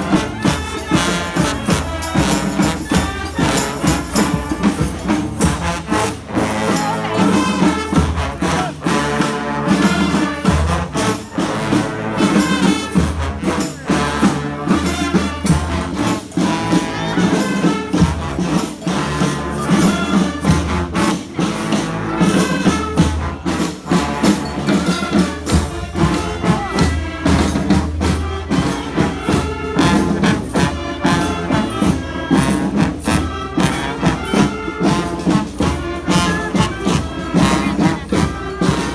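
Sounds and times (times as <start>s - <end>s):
brass horns: 0.0s - 38.9s
drums and hand percussion: 0.0s - 38.9s.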